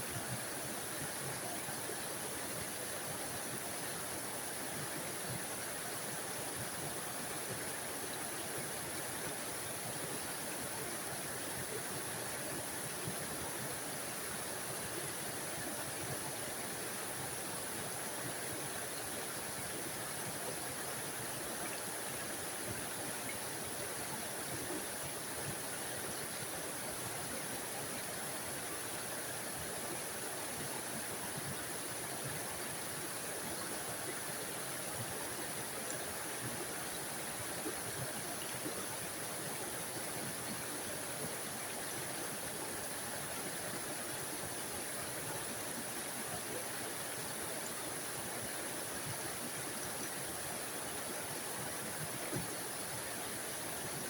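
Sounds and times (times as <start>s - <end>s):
waterfall over rocks: 0.0s - 54.0s.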